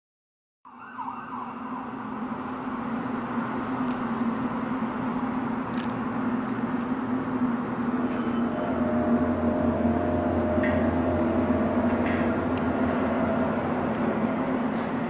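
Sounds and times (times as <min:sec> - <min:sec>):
city noise: 0:00.7 - 0:15.0
low drone with humming tone: 0:02.2 - 0:15.0.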